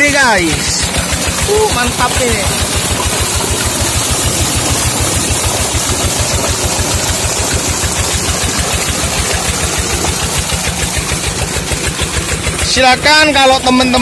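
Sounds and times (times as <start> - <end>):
diesel engine chugging: 0.0 - 14.0
water pouring into a channel: 0.0 - 14.0.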